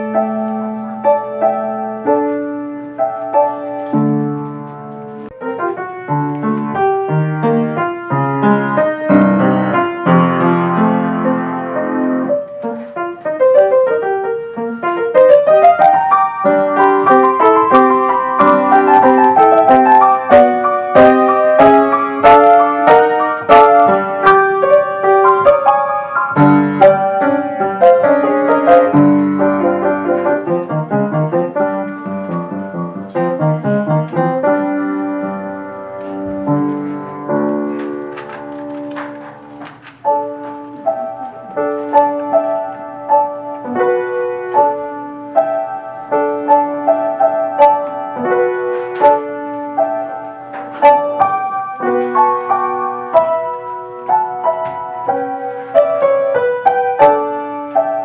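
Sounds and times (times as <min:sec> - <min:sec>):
classical piano piece: 0:00.0 - 0:58.0.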